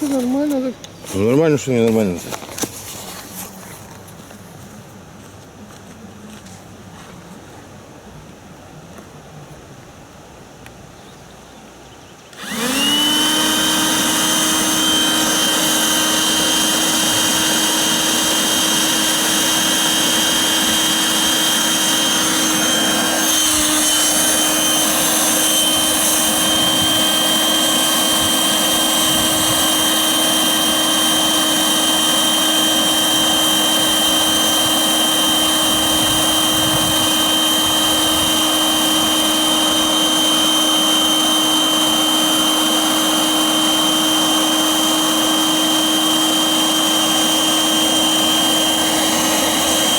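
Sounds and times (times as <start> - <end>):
electric air pump whining: 0.0 - 3.6, 12.3 - 49.9.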